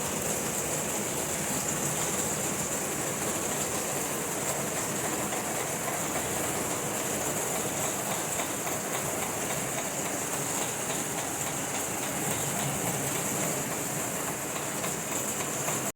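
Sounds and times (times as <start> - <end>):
rain falling: 0.0 - 15.9
ticks of raindrops: 0.0 - 15.9.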